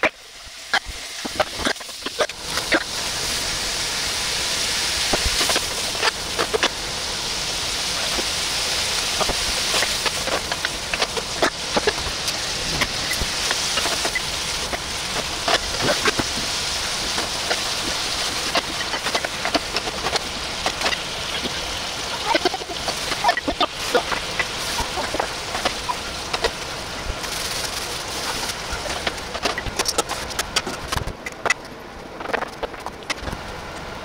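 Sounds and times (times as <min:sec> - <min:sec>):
meat sizzling in oil: 0:00.0 - 0:30.4.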